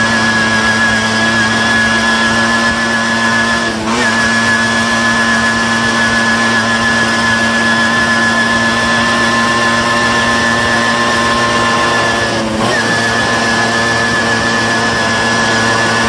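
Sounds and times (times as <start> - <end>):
moped engine running: 0.0 - 16.0.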